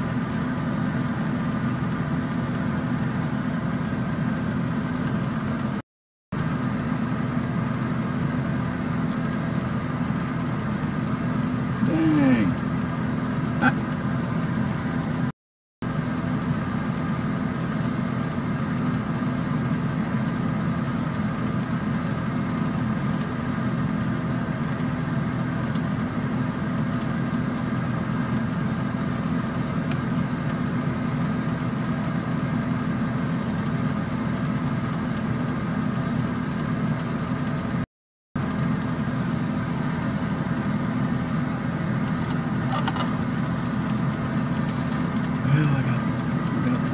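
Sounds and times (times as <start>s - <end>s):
low engine hum: 0.0s - 37.8s, 38.4s - 46.9s.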